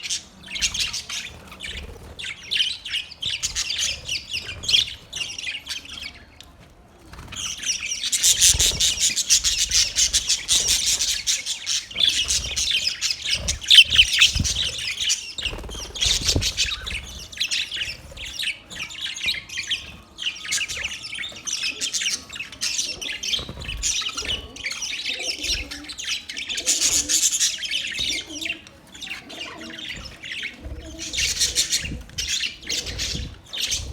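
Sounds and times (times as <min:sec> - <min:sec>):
budgerigars chattering and chirping: 0:00.0 - 0:06.4, 0:07.2 - 0:33.9.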